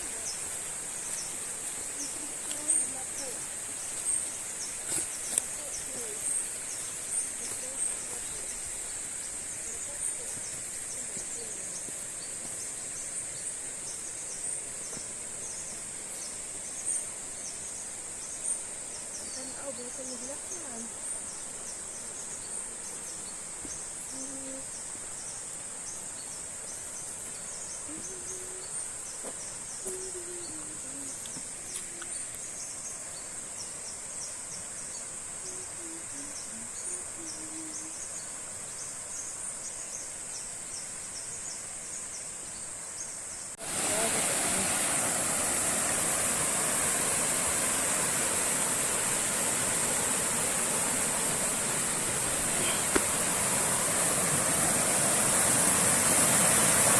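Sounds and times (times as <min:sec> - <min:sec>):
rushing water: 0:00.0 - 0:39.2, 0:43.5 - 0:56.9
insects trilling: 0:00.0 - 0:56.9.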